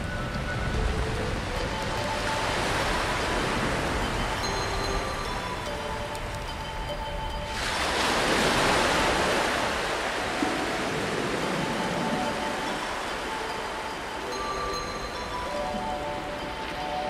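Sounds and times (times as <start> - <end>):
rush of surf-like noise: 0.0 - 17.0.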